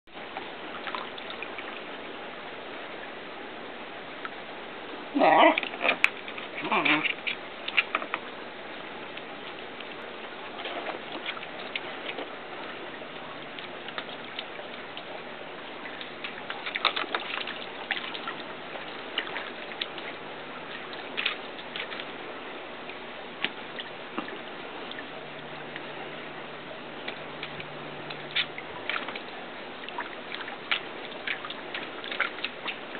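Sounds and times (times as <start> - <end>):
water splashing in a pool: 0.1 - 32.9.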